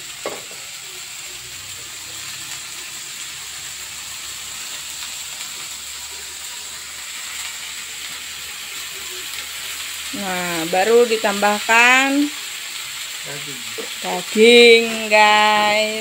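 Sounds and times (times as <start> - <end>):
beans sizzling in a wok: 0.0 - 16.0.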